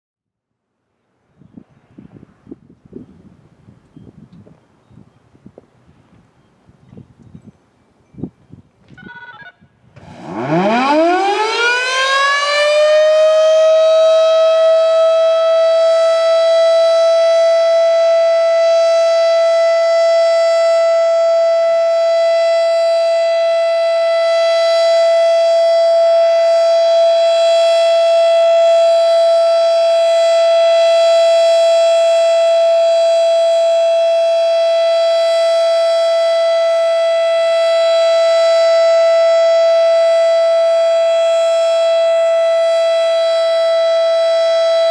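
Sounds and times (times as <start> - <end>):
mechanical siren steady tone: 6.4 - 44.9.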